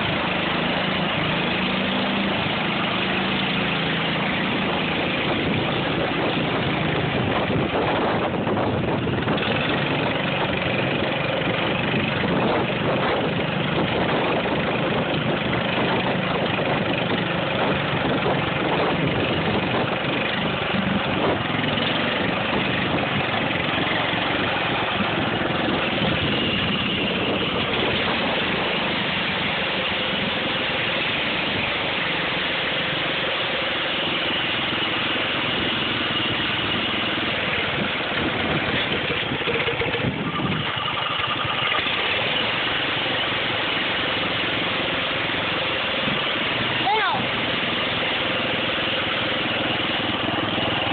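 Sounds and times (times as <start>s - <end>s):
garden tractor engine running: 0.0s - 50.9s.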